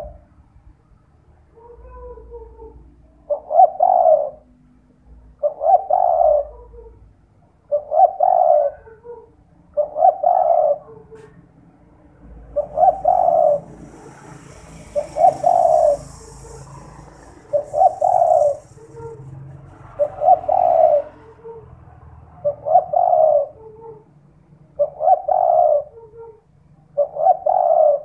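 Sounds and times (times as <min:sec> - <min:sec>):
dove cooing: 0:00.0 - 0:00.2, 0:01.6 - 0:04.6, 0:05.4 - 0:11.4, 0:12.4 - 0:24.1, 0:24.7 - 0:28.0.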